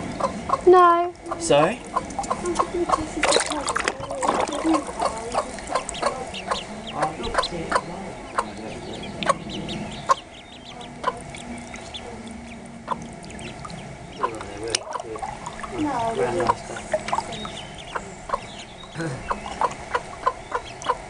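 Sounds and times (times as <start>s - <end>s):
hen clucking: 0.0s - 21.0s.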